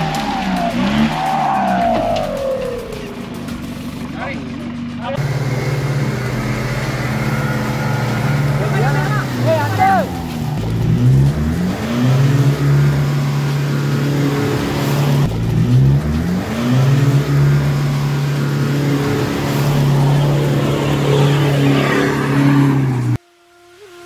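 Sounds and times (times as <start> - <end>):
vehicle engine revving: 0.0 - 23.2.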